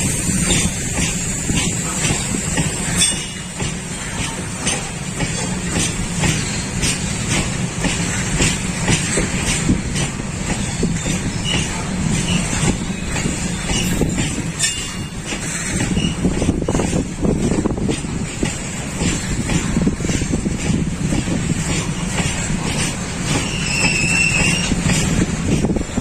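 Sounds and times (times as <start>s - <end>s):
train rumbling: 0.0s - 26.0s
train wheels clicking and clattering: 0.0s - 26.0s.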